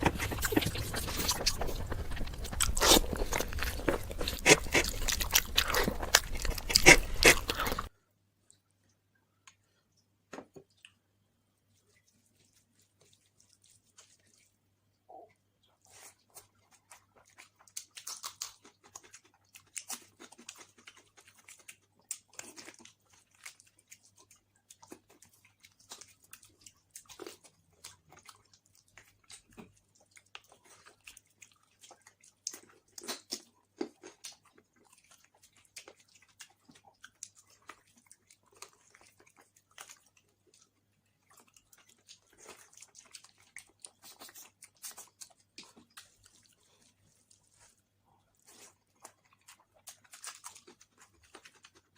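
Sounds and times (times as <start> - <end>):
person chewing and smacking: 0.0 - 7.9, 11.7 - 51.9.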